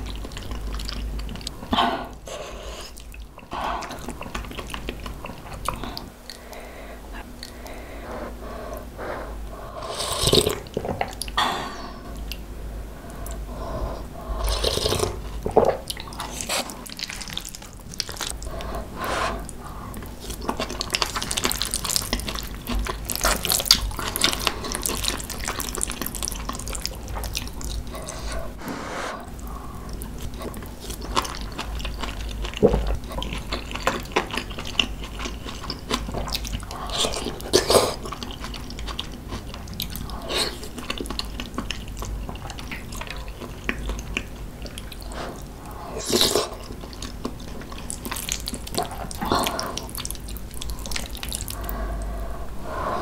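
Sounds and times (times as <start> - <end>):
wet chewing and smacking: 0.0 - 7.9, 10.3 - 11.4, 12.1 - 18.8, 19.4 - 28.6, 29.3 - 52.2.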